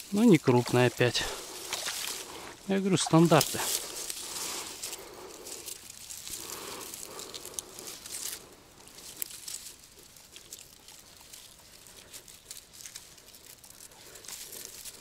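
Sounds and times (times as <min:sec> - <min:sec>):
dry grass crackling and rustling: 0:00.0 - 0:15.0.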